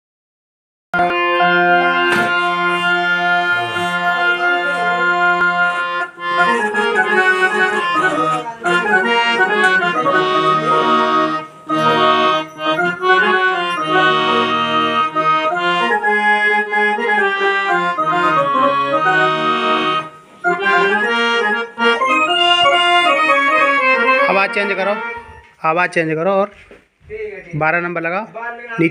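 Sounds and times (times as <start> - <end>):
harmonium playing: 1.0 - 26.0.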